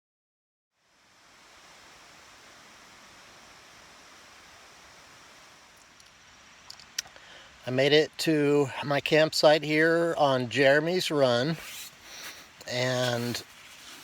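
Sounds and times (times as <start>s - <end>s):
mountain stream rushing: 0.9s - 14.0s.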